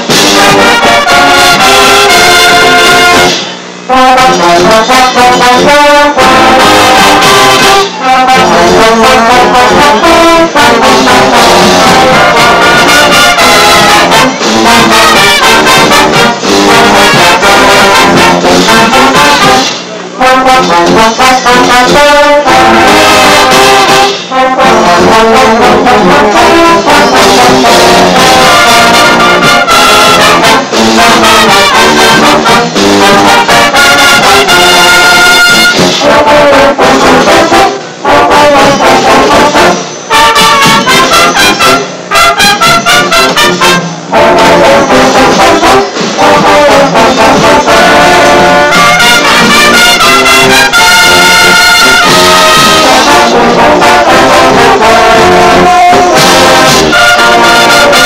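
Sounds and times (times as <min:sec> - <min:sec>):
marching brass band playing: 0:00.0 - 0:58.0.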